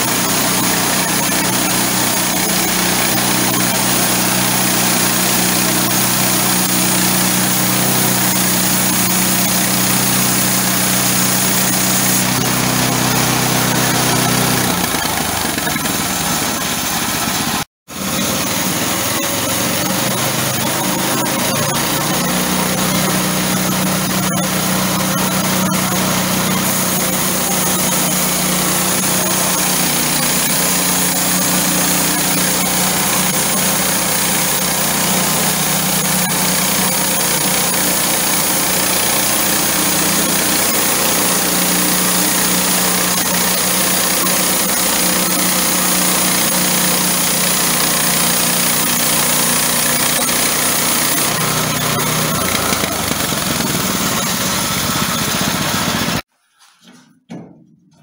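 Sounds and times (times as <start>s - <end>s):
bandsaw mill cutting log: 0.0s - 56.8s.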